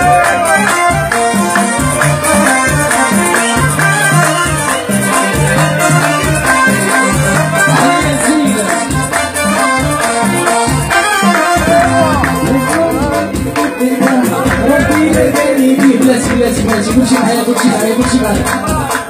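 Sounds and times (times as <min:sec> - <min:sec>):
live band playing: 0:00.0 - 0:19.0
shaker percussion: 0:00.0 - 0:19.0.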